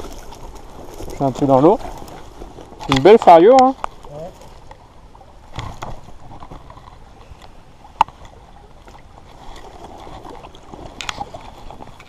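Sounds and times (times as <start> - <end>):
stream water splashing: 0.0 - 12.0.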